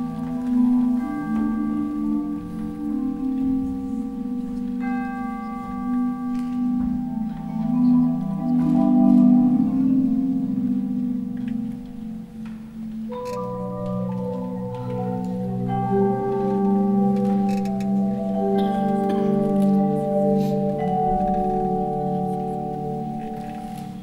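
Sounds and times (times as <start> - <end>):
mallet percussion chords: 0.0 - 24.0.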